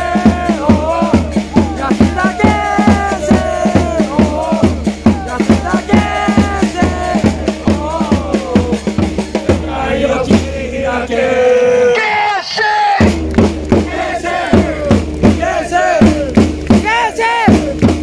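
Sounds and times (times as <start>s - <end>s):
bass drum beat: 0.0s - 11.1s, 13.0s - 18.0s
crowd chanting in unison: 0.0s - 17.8s.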